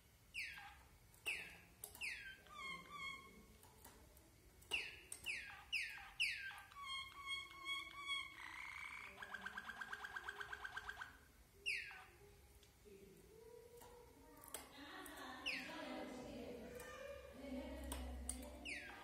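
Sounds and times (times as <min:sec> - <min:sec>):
canary singing: 0:00.0 - 0:04.0, 0:04.6 - 0:12.4, 0:13.7 - 0:19.0.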